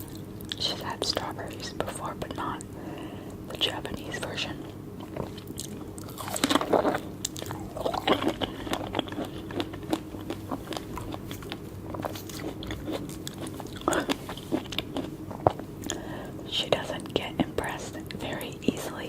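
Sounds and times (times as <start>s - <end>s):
person chewing juicy fruit: 0.0s - 19.0s.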